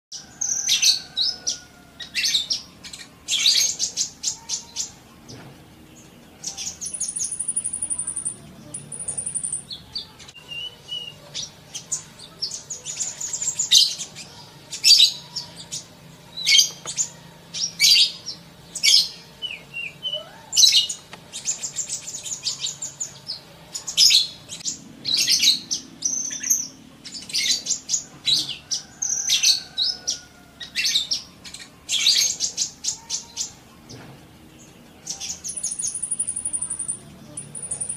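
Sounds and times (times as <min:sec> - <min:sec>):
sunbird chirps and trills: 0:00.1 - 0:37.9.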